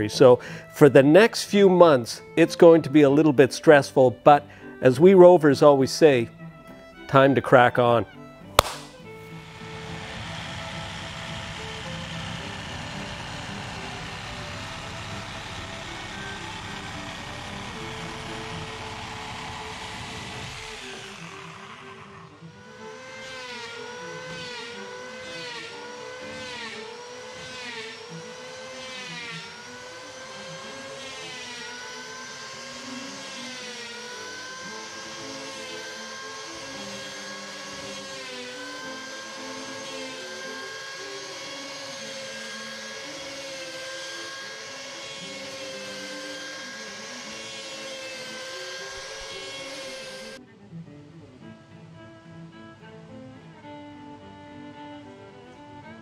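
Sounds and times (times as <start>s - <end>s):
electric hand planer shaving wood: 0.0s - 50.4s.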